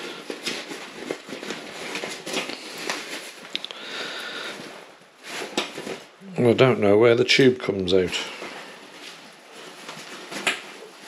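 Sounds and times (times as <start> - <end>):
nylon backpack rustling: 0.0 - 6.2, 8.3 - 11.0.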